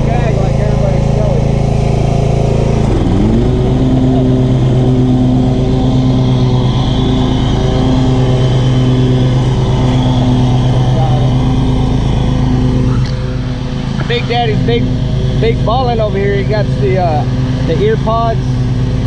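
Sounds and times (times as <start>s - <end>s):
mower engine revving: 0.0s - 19.0s.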